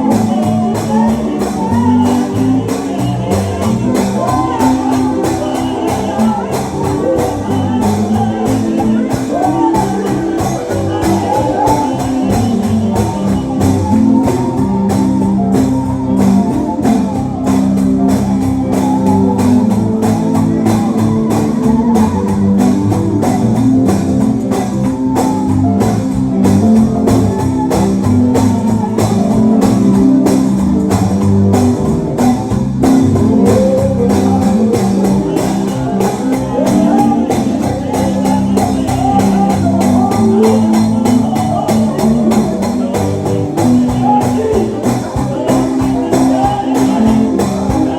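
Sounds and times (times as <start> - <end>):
church band playing gospel: 0.0 - 47.9.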